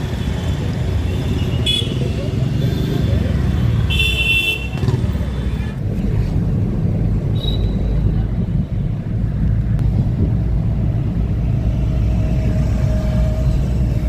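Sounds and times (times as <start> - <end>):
vehicle rumbling: 0.0 - 14.0.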